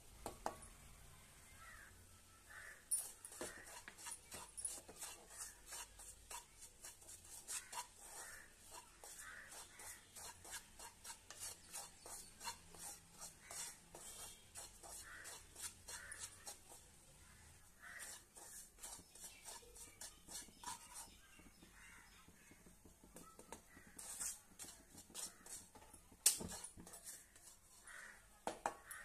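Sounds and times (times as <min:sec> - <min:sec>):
wooden spatula scraping a pan: 0:02.5 - 0:29.0.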